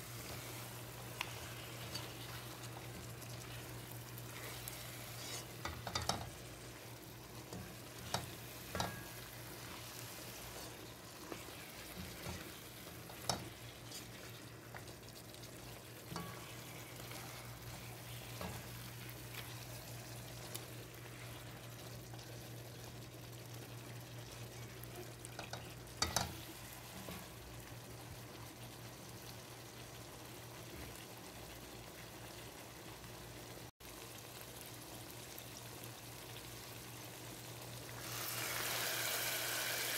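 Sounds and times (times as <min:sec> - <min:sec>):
curry sizzling in a pan: 0:00.0 - 0:39.9.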